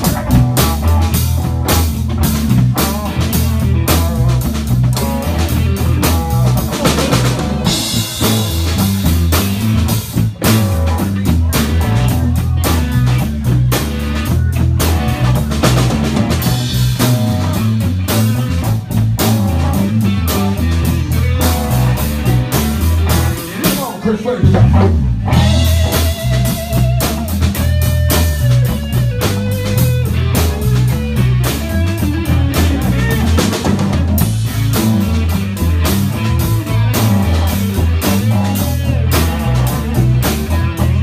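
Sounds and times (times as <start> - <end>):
bass line: 0.0 - 41.0
drum kit beating: 0.0 - 41.0
guitar: 0.0 - 41.0.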